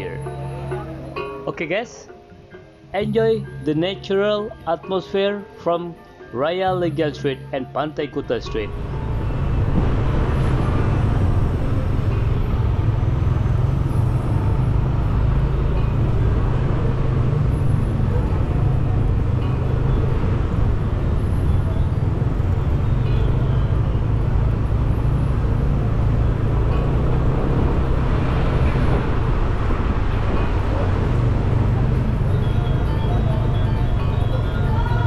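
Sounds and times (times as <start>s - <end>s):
car driving rumble: 6.7s - 35.0s.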